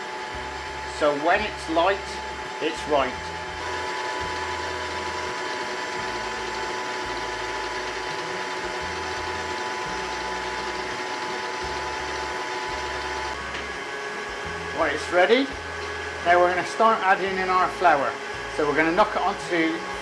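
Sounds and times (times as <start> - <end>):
stand mixer motor whine: 0.0 - 20.0.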